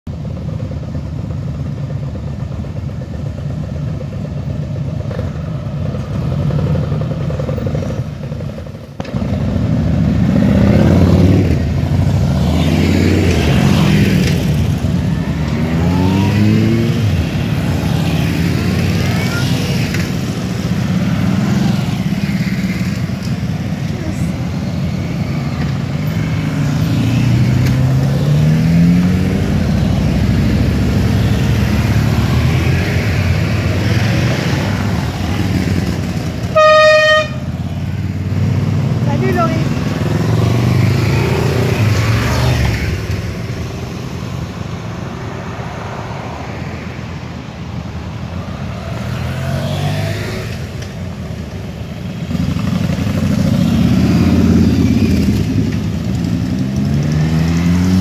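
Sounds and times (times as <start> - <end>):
motorcycle engines idling: 0.1 - 28.3, 29.4 - 40.6, 46.9 - 57.3
motorcycles accelerating away: 5.0 - 45.1, 48.3 - 58.0.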